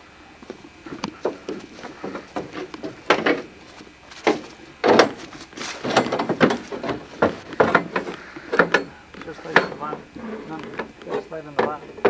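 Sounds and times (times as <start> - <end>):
hard parts knocking and clattering: 0.4 - 12.0.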